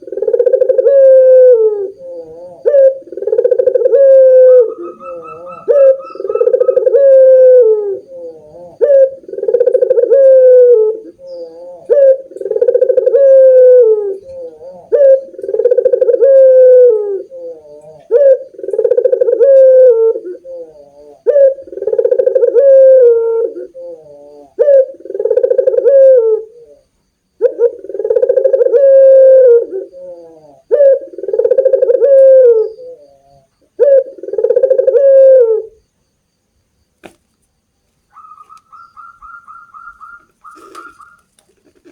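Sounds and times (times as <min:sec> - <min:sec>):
doves cooing: 0:00.0 - 0:35.9, 0:38.1 - 0:41.9.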